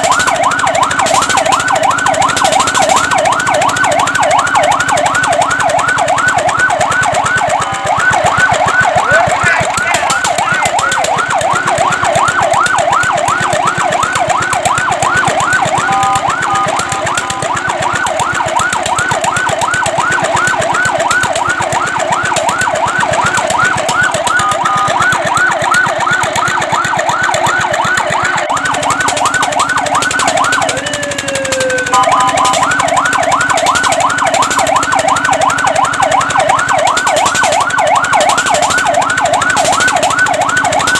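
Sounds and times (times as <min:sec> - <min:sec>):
fire truck siren yelping: 0:00.0 - 0:40.9.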